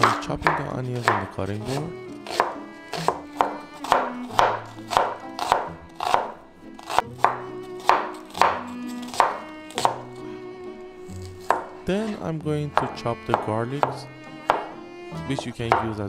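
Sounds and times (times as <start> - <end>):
knife chopping on wooden board: 0.0 - 10.3, 11.1 - 12.2, 12.8 - 16.0
soft background music: 0.0 - 16.0.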